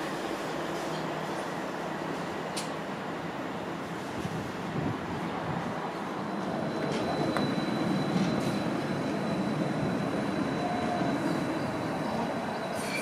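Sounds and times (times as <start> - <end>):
tram wheels rumbling on rail: 0.0 - 13.0.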